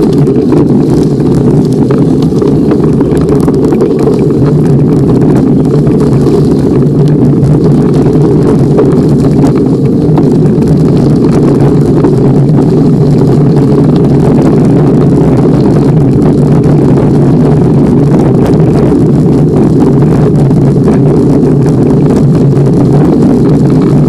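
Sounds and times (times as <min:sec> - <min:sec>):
bicycle tyres on gravel: 0:00.0 - 0:24.0
wind on microphone: 0:00.0 - 0:24.0.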